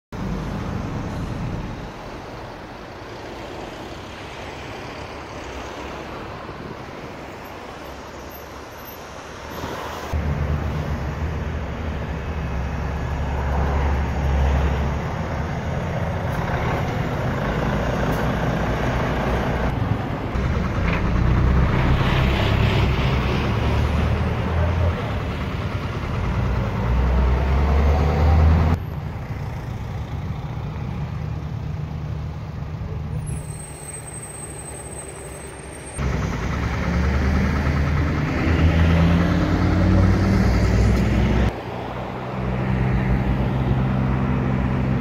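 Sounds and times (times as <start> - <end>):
slow road traffic: 0.1 - 45.0
heavy diesel engines close by: 0.2 - 45.0.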